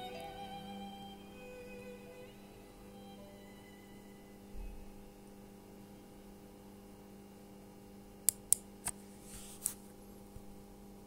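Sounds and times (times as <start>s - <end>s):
low mains hum: 0.0s - 11.0s.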